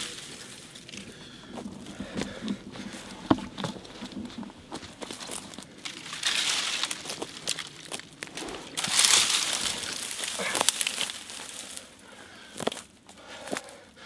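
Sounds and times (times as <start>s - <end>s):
dry branches rustling and snapping: 0.0s - 13.8s.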